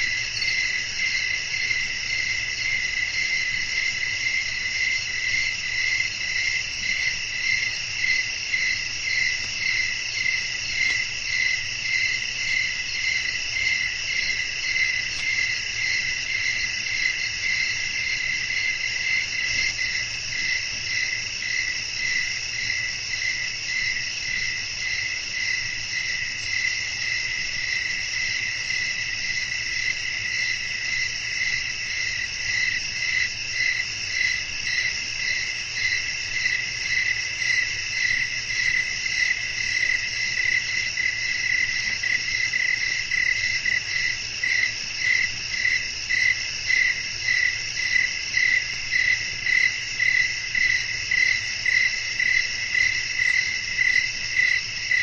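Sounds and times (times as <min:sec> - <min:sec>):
crickets chirping: 0:00.0 - 0:55.0
pulsing cricket trill: 0:00.0 - 0:55.0.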